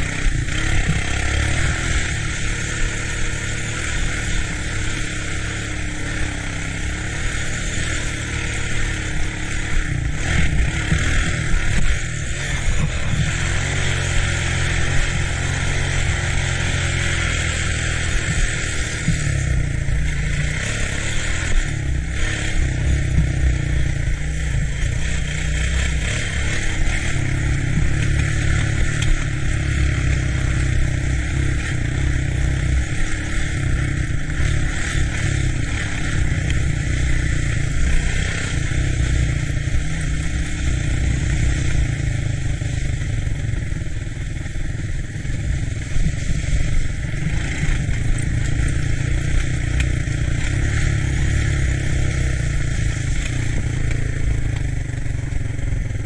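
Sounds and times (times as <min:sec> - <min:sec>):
steady rushing noise: 0:00.0 - 0:56.0
three-wheeler engine running: 0:00.0 - 0:56.0.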